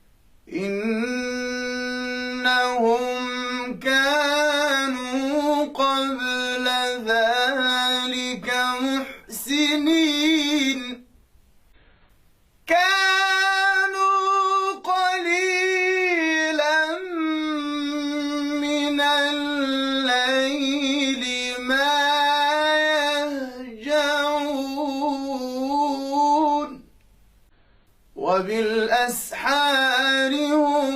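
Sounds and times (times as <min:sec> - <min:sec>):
man chanting: 0:00.5 - 0:11.1, 0:12.6 - 0:26.9, 0:28.2 - 0:30.9.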